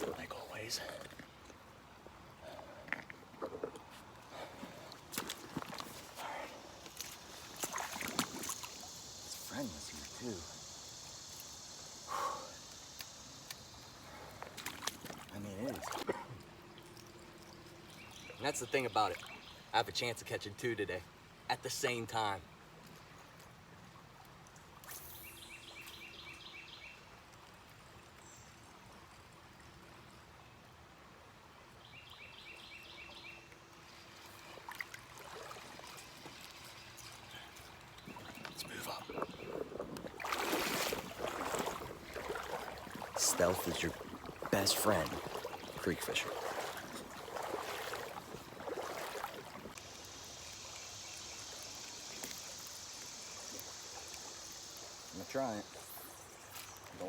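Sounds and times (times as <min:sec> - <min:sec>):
faint creek water: 0:00.0 - 0:57.0.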